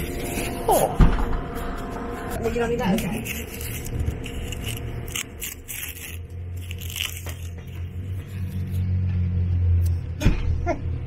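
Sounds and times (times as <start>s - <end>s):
paper wrapper crinkling and tearing: 0.0s - 9.0s
low steady hum: 0.0s - 11.0s.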